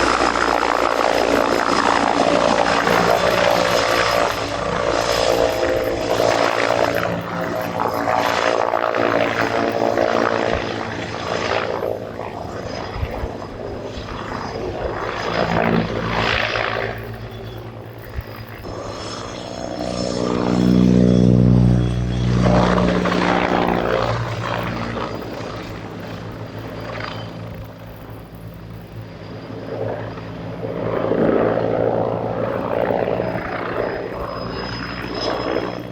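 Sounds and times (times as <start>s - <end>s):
helicopter rotor and turbine: 0.0s - 35.9s.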